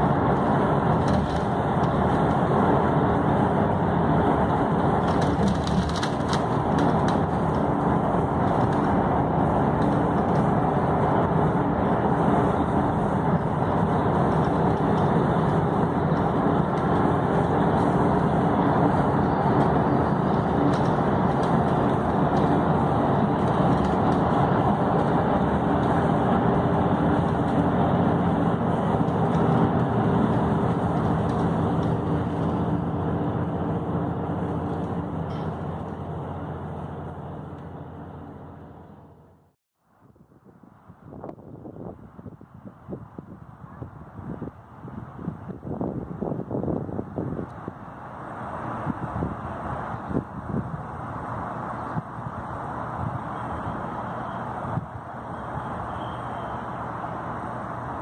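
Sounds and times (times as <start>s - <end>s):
engine rumble: 0.0s - 58.0s
tyre road noise: 0.0s - 58.0s.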